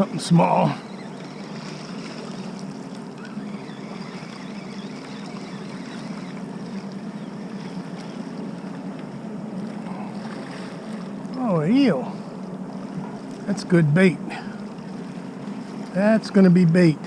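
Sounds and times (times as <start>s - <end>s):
ship engine low drone: 0.0s - 17.0s
water noise: 0.0s - 17.0s
wind: 0.0s - 17.0s.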